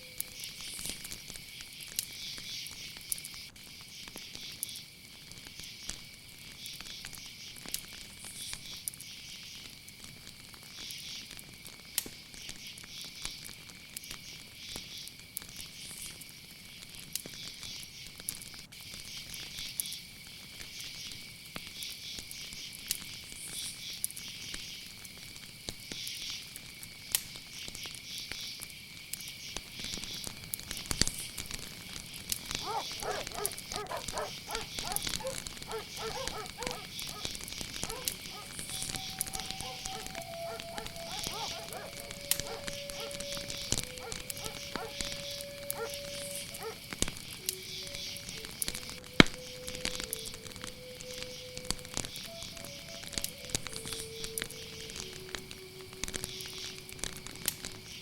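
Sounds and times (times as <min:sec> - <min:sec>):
crickets chirping: 0:00.0 - 0:58.0
fire crackling: 0:00.0 - 0:58.0.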